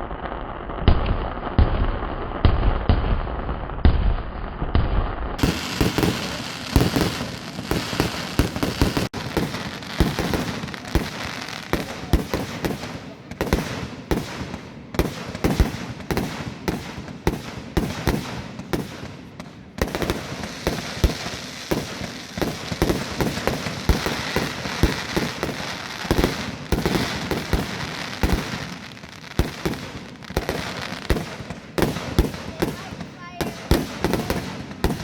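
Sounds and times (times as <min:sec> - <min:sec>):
fireworks bangs: 0:00.0 - 0:35.0
fireworks crackling hiss: 0:05.4 - 0:35.0.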